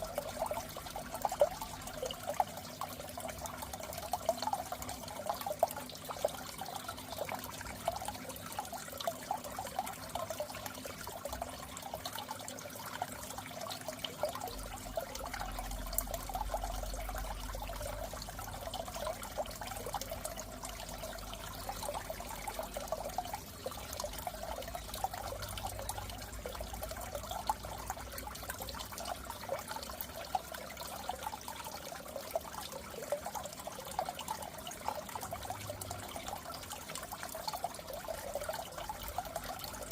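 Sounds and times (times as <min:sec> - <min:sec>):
water drips: 0:00.0 - 0:39.9
water trickling in aquarium: 0:00.0 - 0:39.9.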